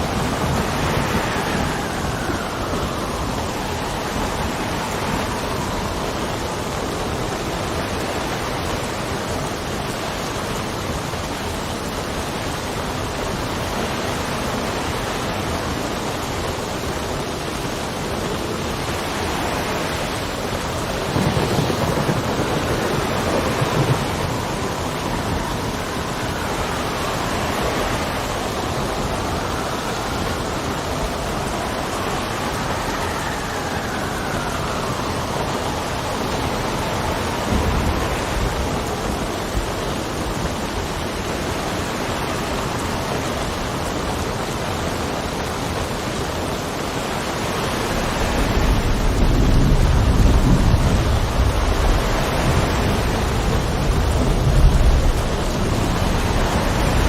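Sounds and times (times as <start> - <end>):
heavy rain: 0.0 - 57.0
thunder rumble: 0.0 - 57.0
wind gusting: 0.0 - 57.0.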